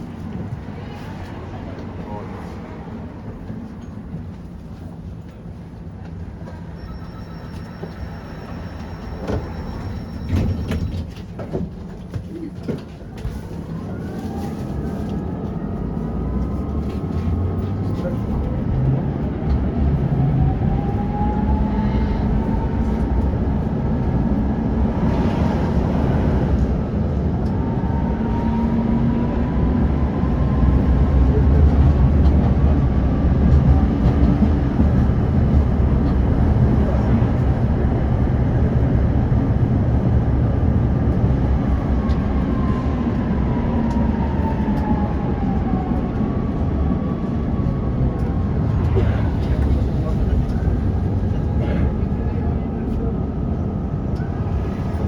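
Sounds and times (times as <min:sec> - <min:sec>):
tram wheels rumbling on rails: 0:00.0 - 0:55.0.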